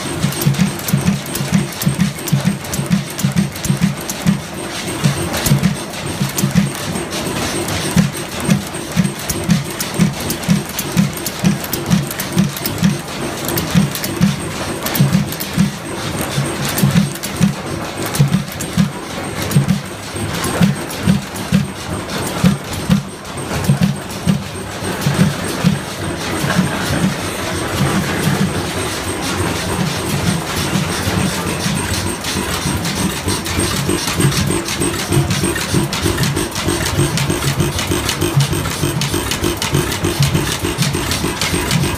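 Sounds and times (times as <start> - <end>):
rapid clatter of clicks: 0.0 - 41.9
stationary engine running slowly: 0.0 - 41.9.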